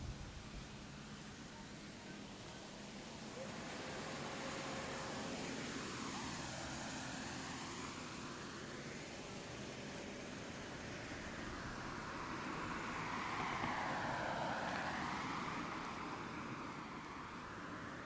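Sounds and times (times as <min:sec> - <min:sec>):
car passing by: 0:02.1 - 0:18.0.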